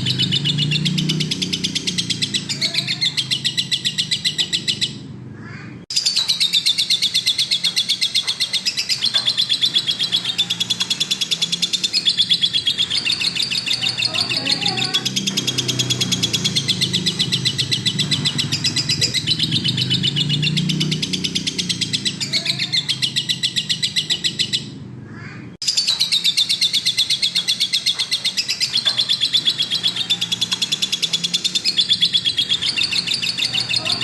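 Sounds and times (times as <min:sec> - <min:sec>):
bird chirping rapidly: 0:00.0 - 0:05.1, 0:05.9 - 0:34.0.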